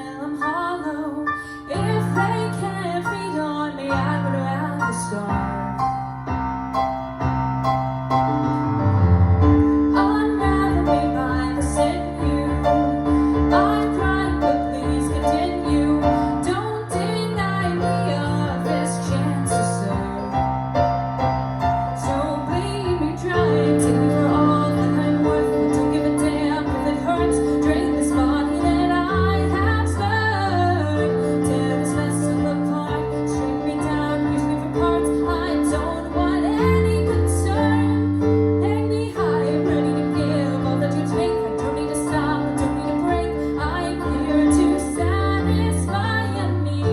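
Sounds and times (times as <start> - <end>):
held keyboard chords: 0.0 - 46.9.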